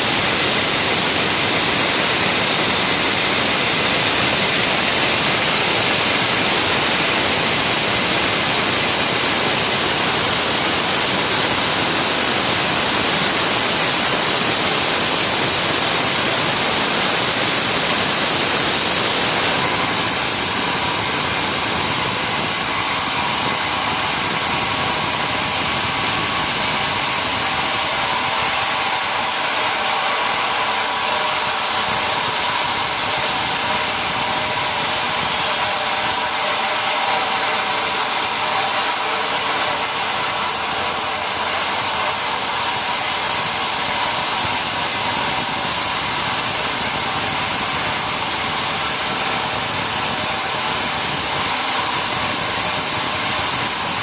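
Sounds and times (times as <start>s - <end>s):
high-pitched whine: 0.0s - 54.0s
sawmill machinery running: 0.0s - 54.0s.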